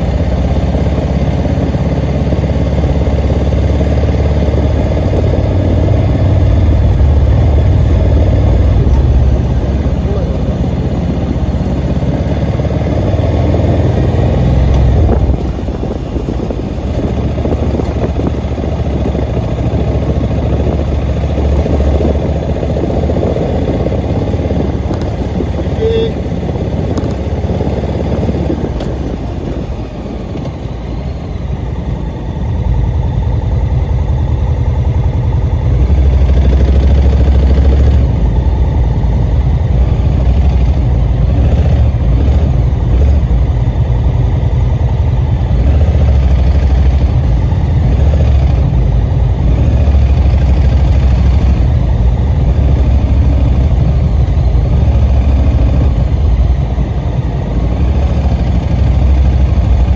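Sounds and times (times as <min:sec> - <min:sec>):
low road rumble: 0:00.0 - 0:59.9
vehicle engine running: 0:00.0 - 0:59.9.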